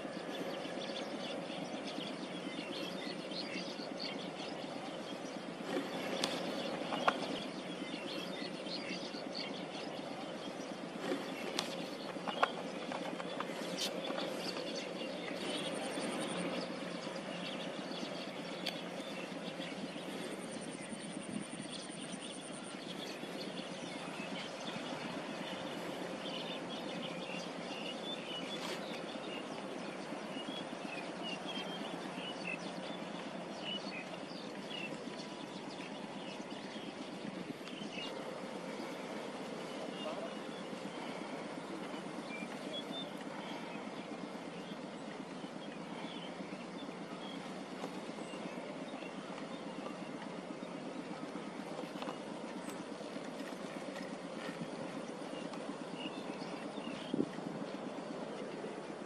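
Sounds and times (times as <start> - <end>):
background hum: 0.0 - 59.0
birds chirping: 0.0 - 59.0.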